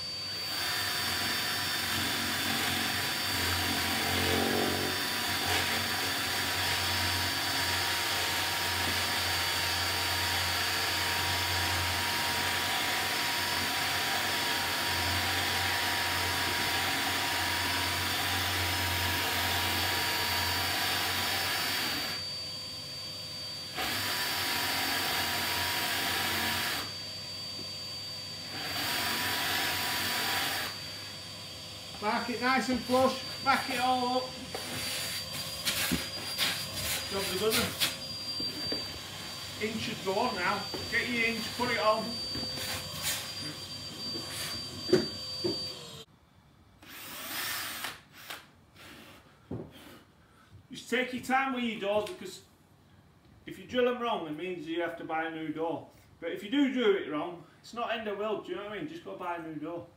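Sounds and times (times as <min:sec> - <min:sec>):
cordless drill whining: 0:00.0 - 0:46.1, 0:46.8 - 0:50.0.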